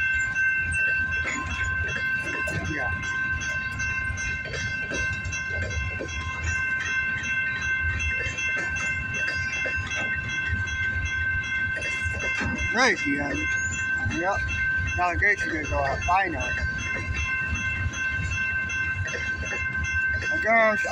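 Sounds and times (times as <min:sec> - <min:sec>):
train wheels rumbling and clacking: 0:00.0 - 0:20.9.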